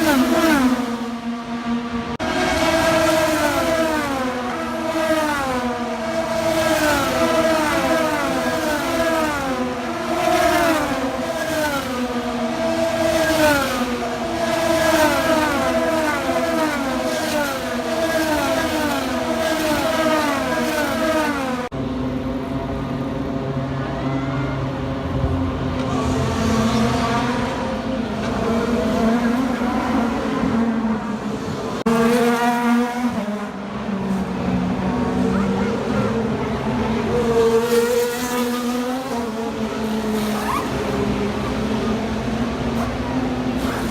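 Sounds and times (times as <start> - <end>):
race car engines passing: 0.0 - 43.9.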